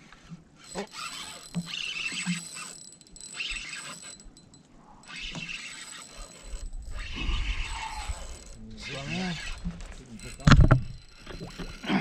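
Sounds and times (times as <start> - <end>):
fishing reel whirring: 0.6 - 12.0.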